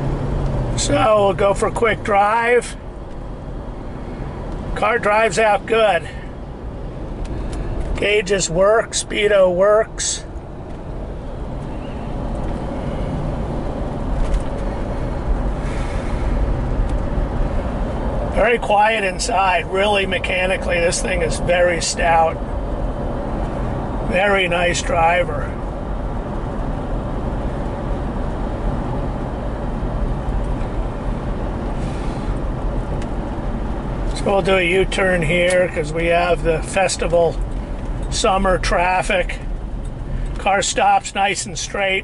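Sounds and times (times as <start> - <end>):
passing bus: 0.0 - 42.0
road and engine rumble in car cabin: 0.0 - 42.0.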